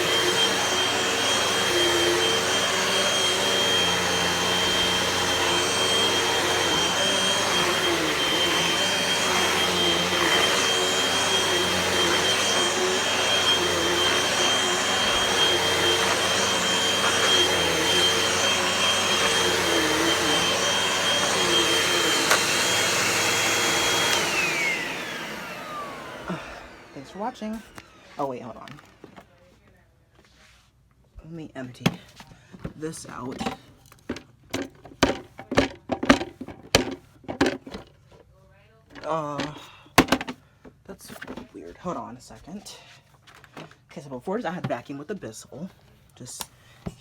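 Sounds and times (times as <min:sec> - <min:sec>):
vacuum cleaner running: 0:00.0 - 0:29.3, 0:32.6 - 0:37.9, 0:39.0 - 0:42.4.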